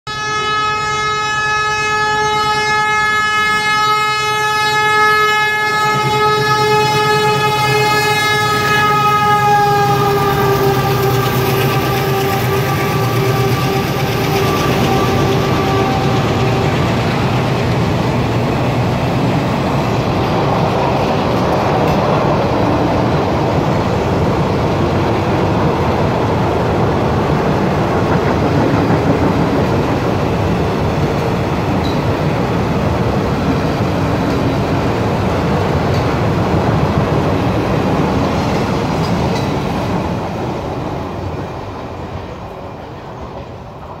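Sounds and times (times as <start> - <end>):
steel wheels on rails: 5.3 - 44.0.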